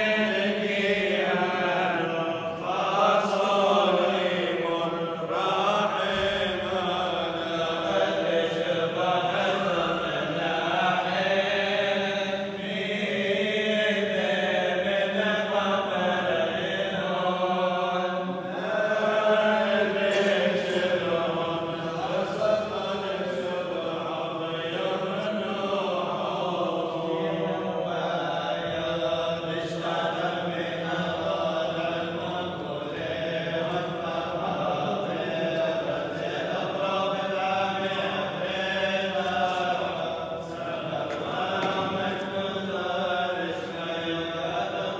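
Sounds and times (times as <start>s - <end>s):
men chanting a hymn in unison: 0.0s - 44.9s.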